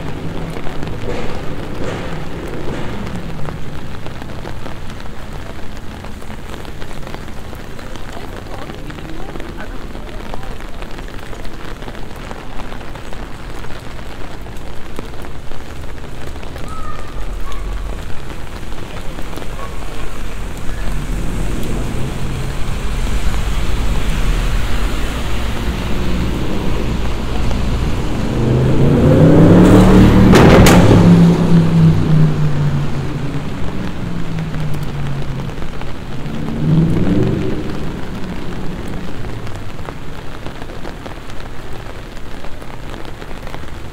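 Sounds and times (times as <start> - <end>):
rain splashing on pavement: 0.0 - 43.9
thunder rumbling and cracking: 0.0 - 43.9.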